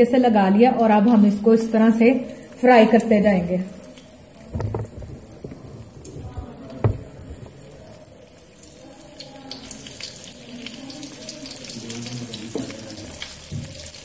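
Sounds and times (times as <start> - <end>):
chicken deep-frying in oil: 1.6 - 14.0.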